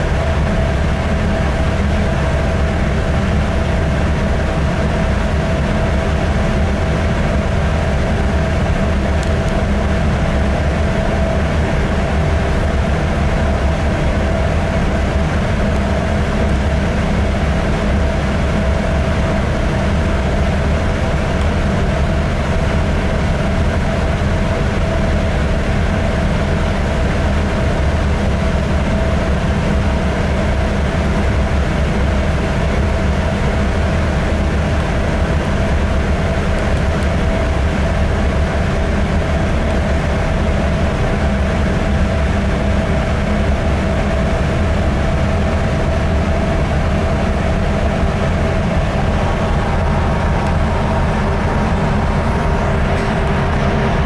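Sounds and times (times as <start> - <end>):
diesel engine drone: 0.0 - 54.0
steady whine: 0.0 - 54.0.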